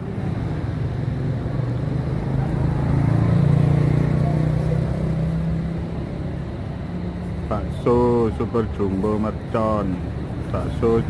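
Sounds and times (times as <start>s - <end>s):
vehicle engine passing: 0.0s - 9.1s.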